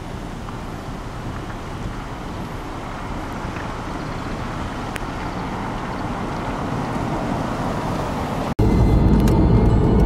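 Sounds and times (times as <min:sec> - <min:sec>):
heavy rain on flooded road: 0:00.0 - 0:08.6.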